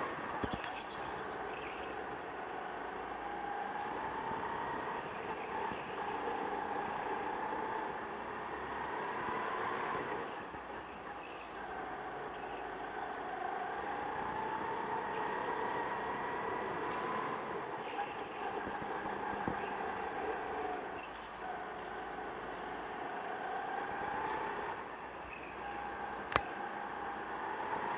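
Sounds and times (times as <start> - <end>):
go-kart engine revving: 0.0 - 27.9.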